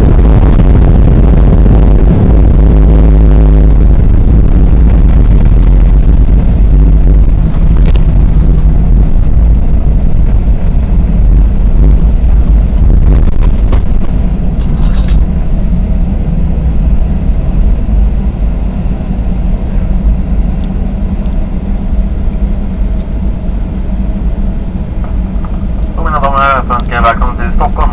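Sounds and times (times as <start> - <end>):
jet engine rumble in cabin: 0.0 - 27.9.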